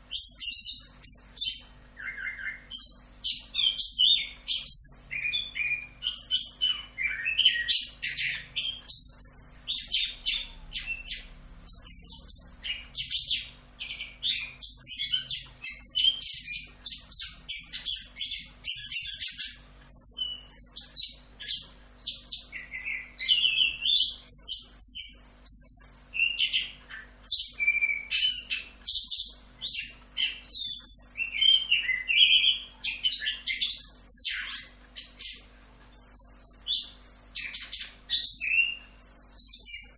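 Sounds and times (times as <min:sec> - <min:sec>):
thrush singing whistles and trills: 0:00.0 - 0:35.4, 0:36.0 - 0:39.9.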